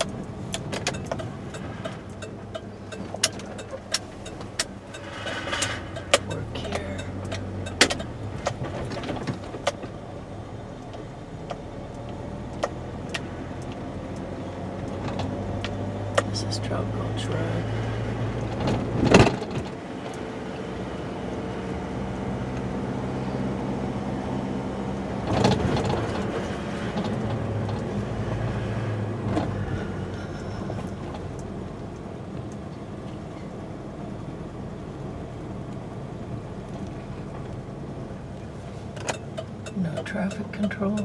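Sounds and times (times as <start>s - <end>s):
car engine and tyre hum: 0.0s - 41.0s.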